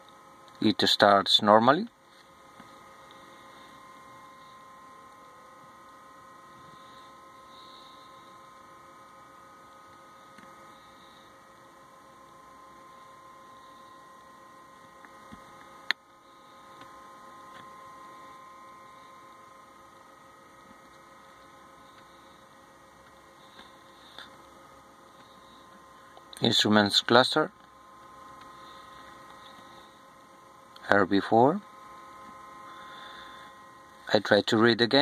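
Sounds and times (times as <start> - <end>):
faint electrical hum: 0.0 - 35.0
thin whining tones: 2.1 - 35.0.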